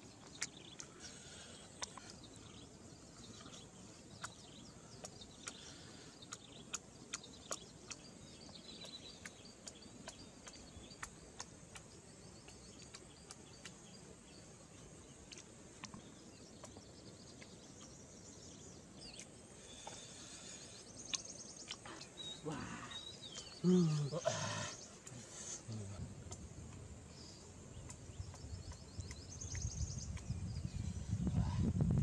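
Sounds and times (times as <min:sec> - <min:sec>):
birds chirping: 0:00.0 - 0:31.8
background hiss: 0:00.0 - 0:32.0.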